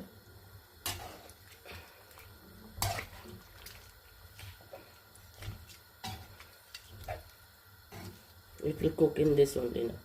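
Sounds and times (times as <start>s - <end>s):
liquid sloshing in a pan: 0.8s - 9.3s.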